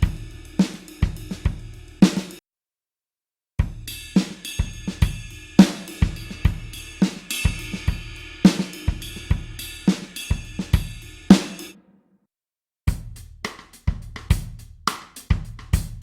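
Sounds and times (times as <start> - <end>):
rock drum kit groove: 0.0 - 2.4, 3.6 - 11.8, 12.9 - 16.0.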